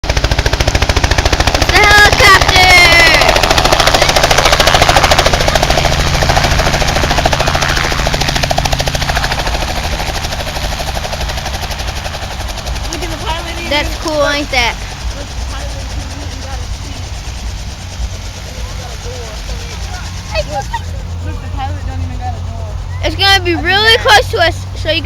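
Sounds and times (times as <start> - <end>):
helicopter rotor chopping: 0.0 - 25.0.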